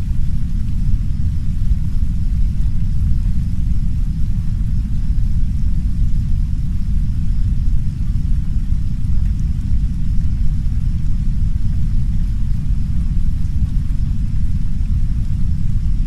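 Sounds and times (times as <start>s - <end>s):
deep brown noise rumble: 0.0s - 16.0s
soft rain hiss: 0.0s - 16.0s.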